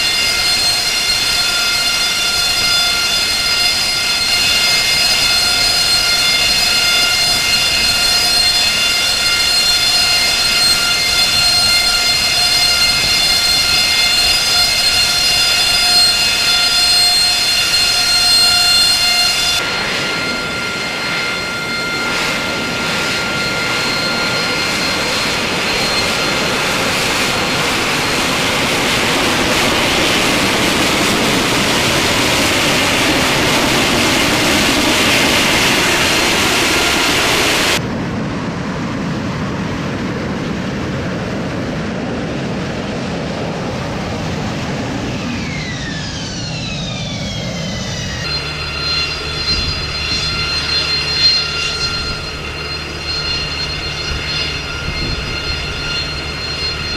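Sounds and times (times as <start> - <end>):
high jet whine: 0.0 - 56.9
jet engine roar: 0.0 - 56.9.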